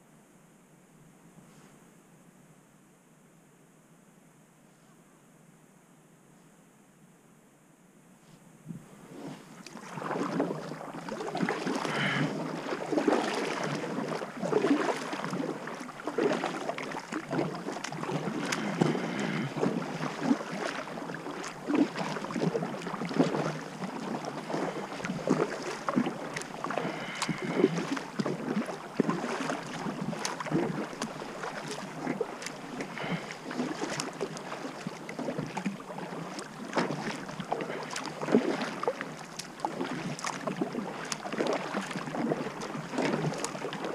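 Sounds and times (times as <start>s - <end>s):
paddle splashing in water: 8.7s - 43.9s.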